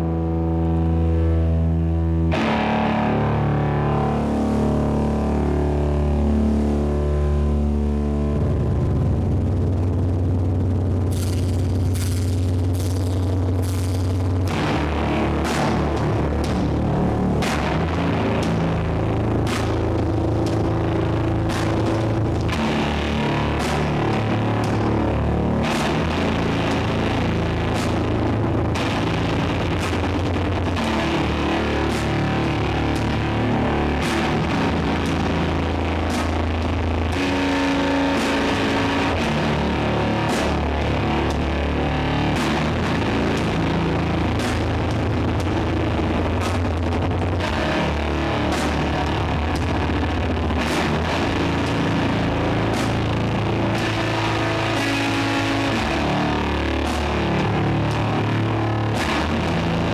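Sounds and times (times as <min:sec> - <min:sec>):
distorted guitars and bass: 0:00.0 - 0:59.9.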